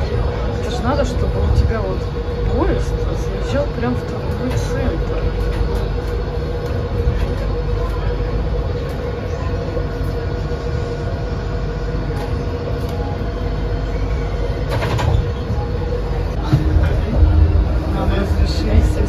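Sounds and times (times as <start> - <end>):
monorail rumbling: 0.0 - 19.0.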